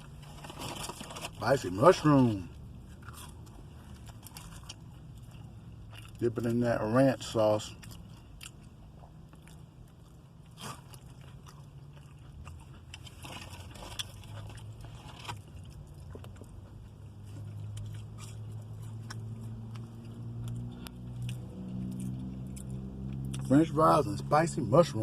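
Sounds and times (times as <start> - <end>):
person chewing crunchy food: 0.0 - 23.7
low steady hum: 0.0 - 25.0.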